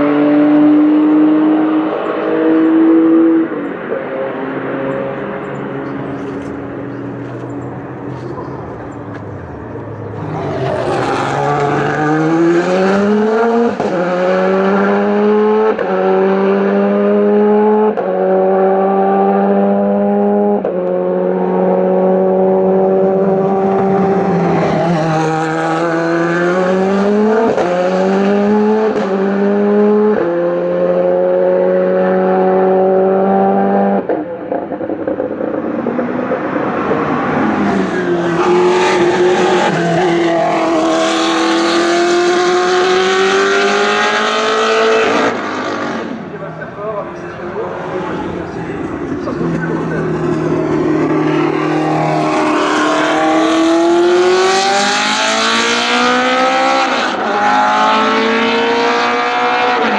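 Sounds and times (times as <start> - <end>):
racing car engine accelerating: 0.0 - 59.9.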